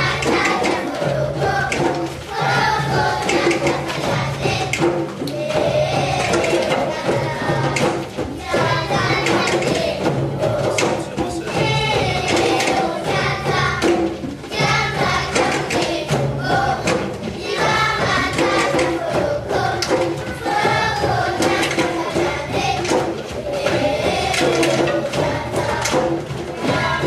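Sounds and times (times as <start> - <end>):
children's choir singing: 0.0 - 27.0
hand drums playing: 0.0 - 27.0.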